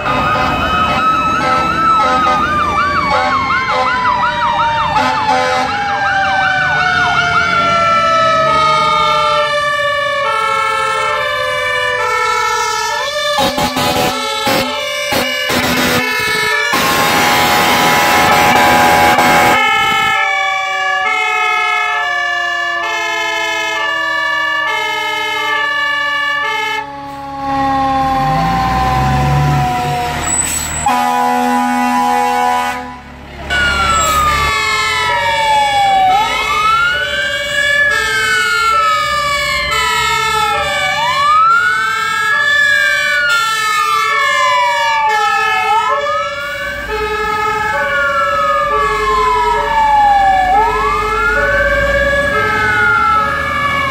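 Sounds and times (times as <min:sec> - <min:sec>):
mechanical siren rising and falling: 0:00.0 - 0:31.2, 0:33.4 - 0:53.9
siren winding down in pitch: 0:00.0 - 0:31.2, 0:33.5 - 0:53.9
two-tone hi-lo siren horn: 0:00.0 - 0:53.9.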